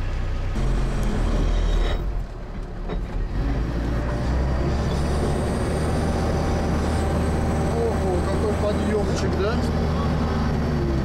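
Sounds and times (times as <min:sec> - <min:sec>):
atv engine droning: 0:00.0 - 0:11.0.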